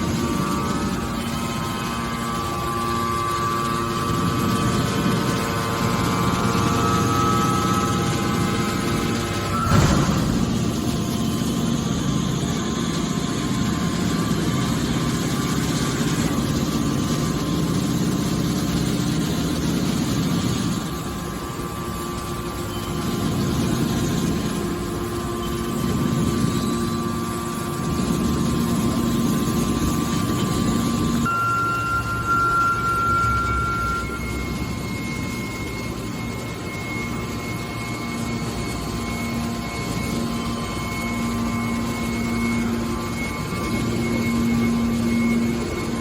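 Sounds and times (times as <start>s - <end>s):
hydraulic baler machine drone: 0.0s - 46.0s.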